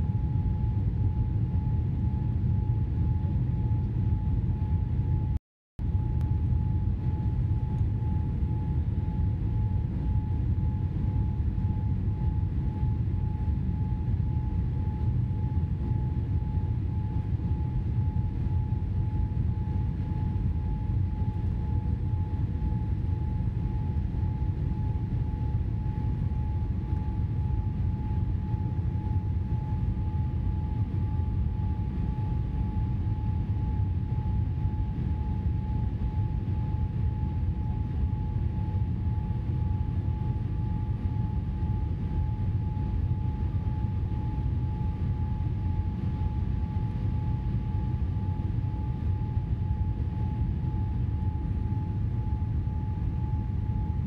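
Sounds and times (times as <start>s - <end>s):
thin steady whine: 0.0s - 54.0s.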